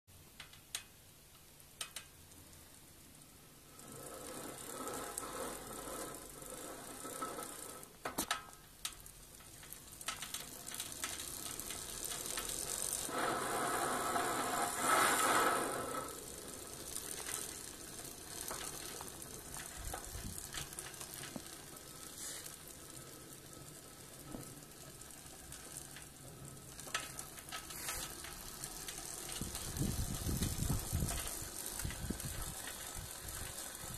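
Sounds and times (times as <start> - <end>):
bicycle hub clicking: 0.2 - 33.9.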